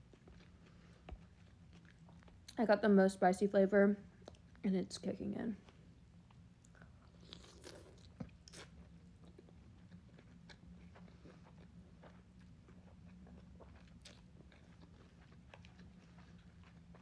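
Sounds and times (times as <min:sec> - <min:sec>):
faint chewing: 0:00.0 - 0:02.7, 0:04.2 - 0:04.6, 0:05.6 - 0:17.0
low steady hum: 0:00.0 - 0:17.0.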